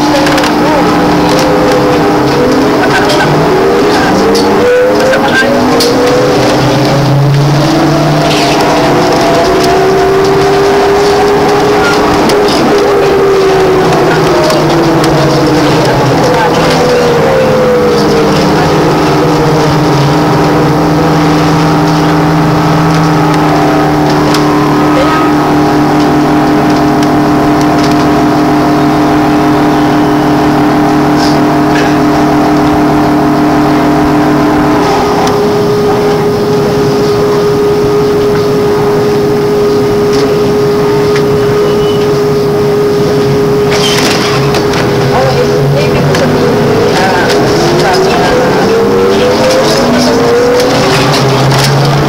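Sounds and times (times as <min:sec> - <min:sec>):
trolleybus electric drive whine: 0:00.0 - 0:52.0.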